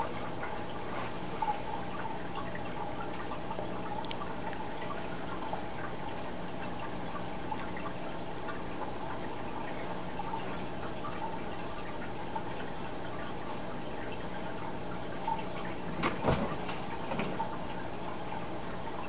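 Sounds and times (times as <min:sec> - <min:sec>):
aquarium water trickling and bubbling: 0:00.0 - 0:19.0.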